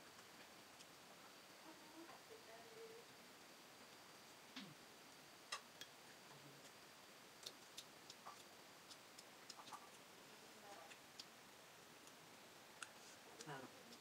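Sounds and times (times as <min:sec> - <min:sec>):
quiet hiss: 0:00.0 - 0:14.0.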